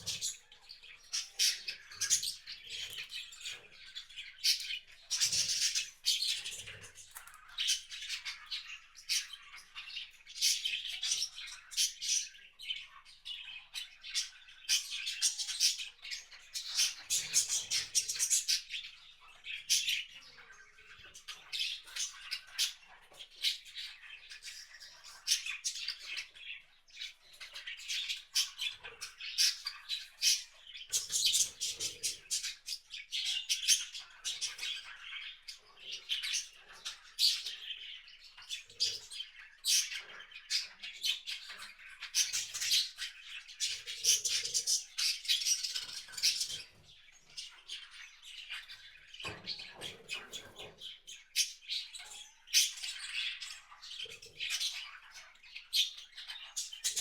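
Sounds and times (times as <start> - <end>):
wild birds chirping: 0.0 - 57.0.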